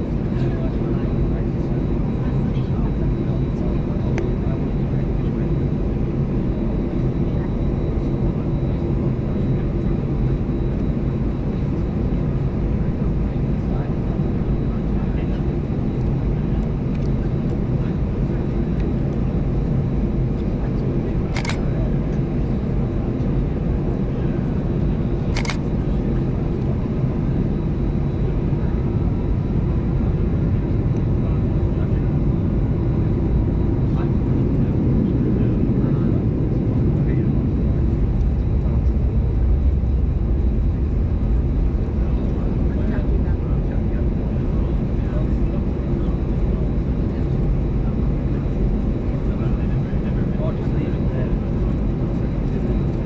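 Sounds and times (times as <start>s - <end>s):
jet engines idling in cabin: 0.0s - 53.0s.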